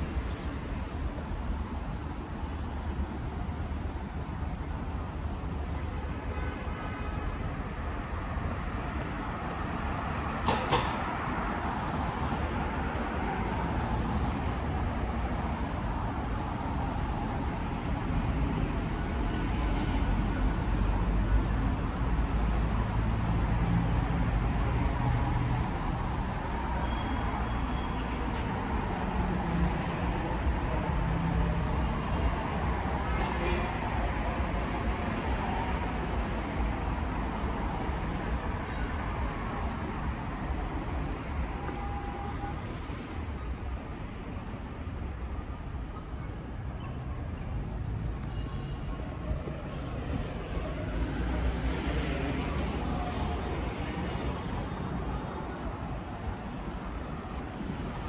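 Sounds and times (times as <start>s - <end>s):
traffic rumble: 0.0s - 6.4s, 7.2s - 58.0s.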